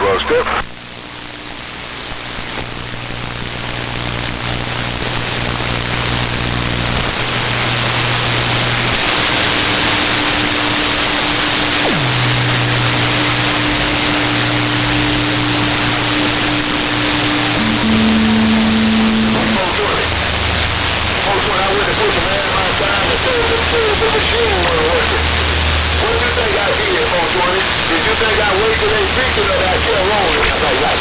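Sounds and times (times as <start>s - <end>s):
radio static hiss: 0.0s - 31.0s
steady low tones: 4.8s - 31.0s.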